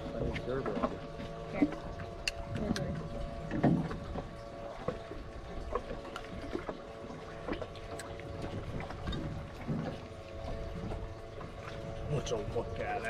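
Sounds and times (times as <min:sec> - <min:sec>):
water sloshing around boat: 0:00.0 - 0:13.0.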